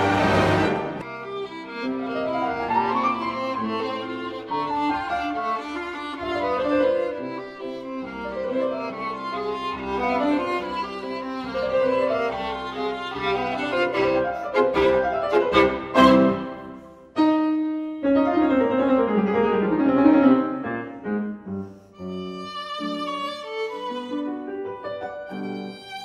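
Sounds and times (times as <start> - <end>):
violin and piano music: 0.0 - 26.0.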